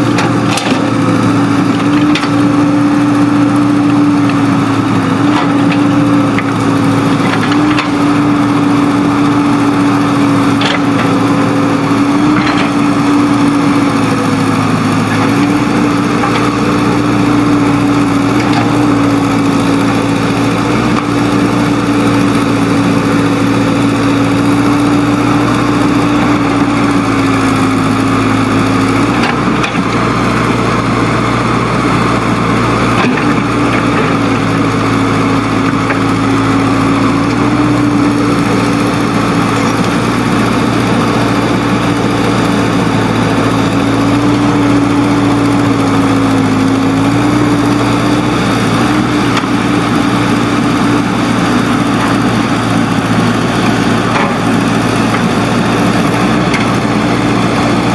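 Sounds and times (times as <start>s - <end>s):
heavy diesel engine running: 0.0s - 57.9s.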